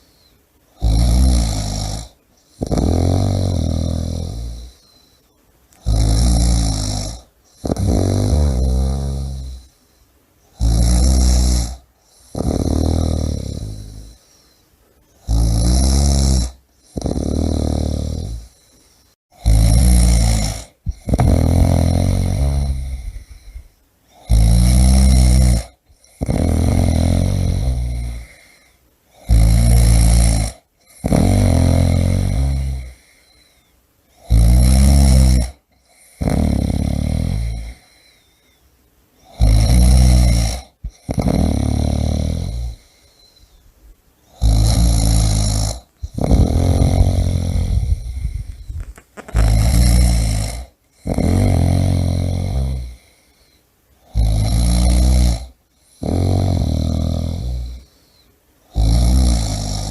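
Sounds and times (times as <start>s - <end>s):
person snoring: 0.0s - 9.8s, 10.5s - 14.6s, 15.2s - 38.3s, 39.2s - 43.6s, 44.3s - 59.9s.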